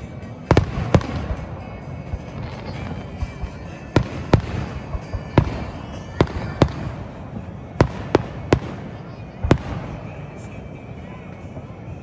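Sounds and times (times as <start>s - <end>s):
background murmur: 0.0s - 12.0s
fireworks bursting: 0.0s - 12.0s.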